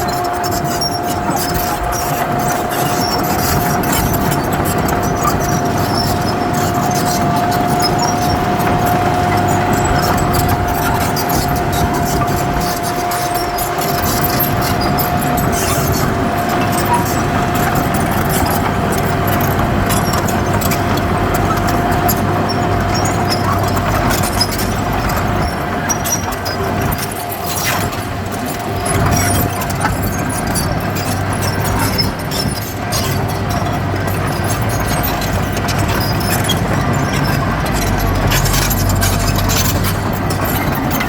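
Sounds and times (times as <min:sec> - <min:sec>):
clanks and rattles: 0:00.0 - 0:41.0
constant mechanical whine: 0:00.0 - 0:41.0
heavy diesel machinery running: 0:00.0 - 0:41.0.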